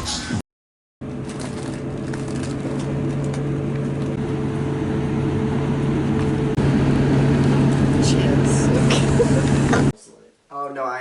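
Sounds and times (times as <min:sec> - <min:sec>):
vehicle running hum: 0:01.0 - 0:09.9.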